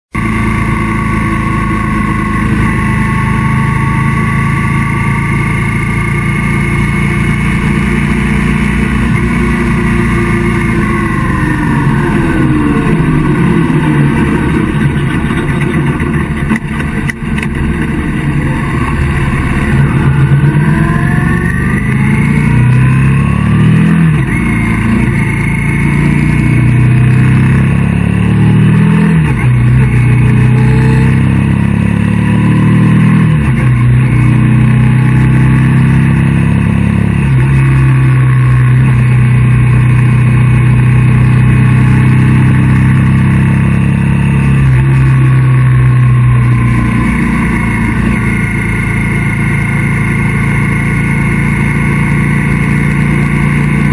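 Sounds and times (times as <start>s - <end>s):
motorcycle engine running: 0.1s - 53.9s.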